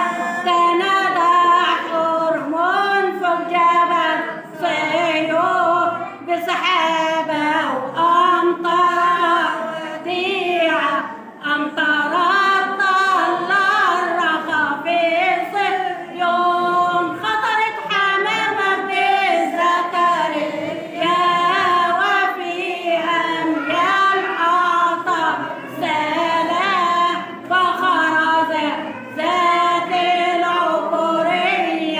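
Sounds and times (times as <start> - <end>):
women singing a hymn unaccompanied: 0.0 - 31.9.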